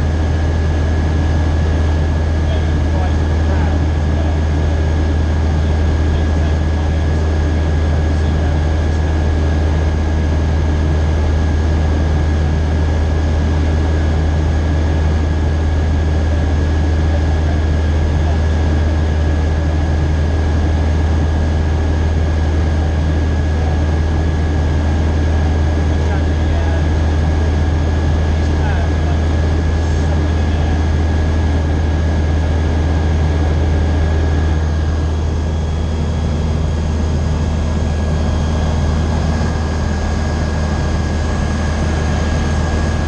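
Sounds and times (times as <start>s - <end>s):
propeller aircraft engine drone: 0.0s - 43.0s.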